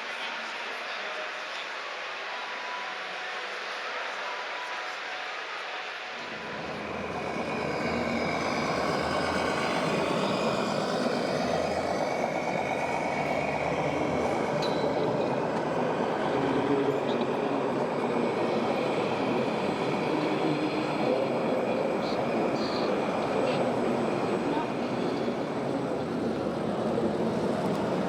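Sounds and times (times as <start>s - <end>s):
busy exhibition hall noise: 0.0s - 28.0s.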